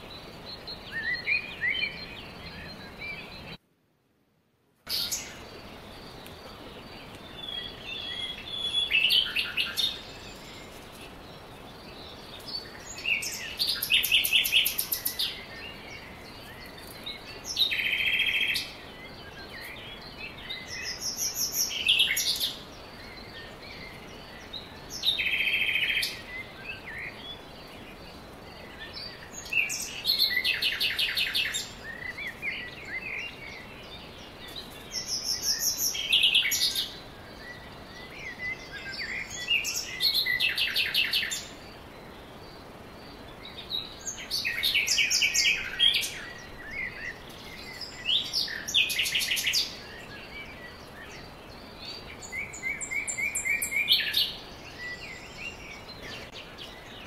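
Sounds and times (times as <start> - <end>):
songbird singing rapid trills: 0.0 - 3.6, 4.9 - 57.0
steady background hiss: 0.0 - 57.0.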